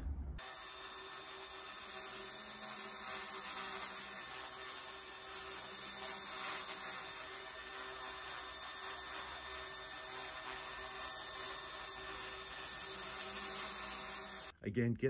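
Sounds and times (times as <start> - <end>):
belt grinder humming: 0.4 - 14.5
wood and metal grinding on belt: 0.4 - 14.5.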